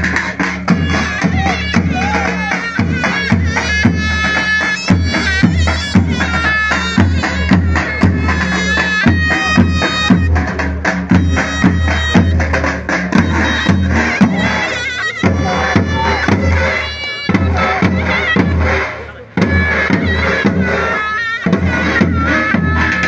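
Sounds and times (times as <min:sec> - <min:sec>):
bass drum beat: 0:00.0 - 0:23.0
shrill shawm melody: 0:00.0 - 0:23.0.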